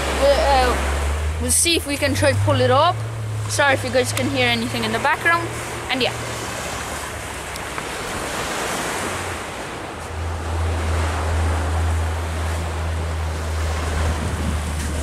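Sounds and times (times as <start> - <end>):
sea surf washing onto beach: 0.0 - 15.0
wind buffeting microphone: 0.0 - 15.0.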